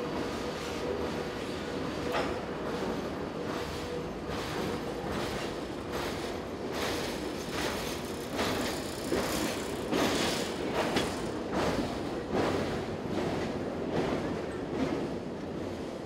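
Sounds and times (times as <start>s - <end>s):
train cars clanking: 0.0s - 16.0s
train rolling rumble: 0.0s - 16.0s.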